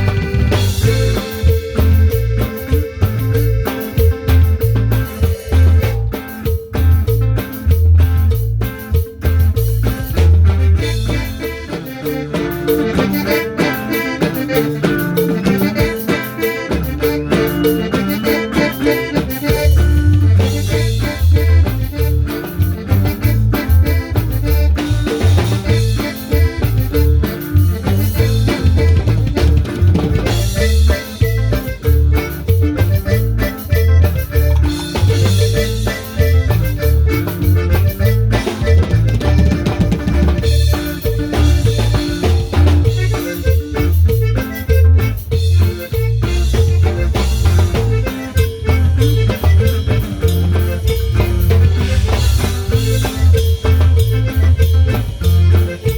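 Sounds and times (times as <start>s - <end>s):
bass: 0.0s - 55.9s
drum kit: 0.0s - 55.9s
melodic lead: 0.0s - 55.9s.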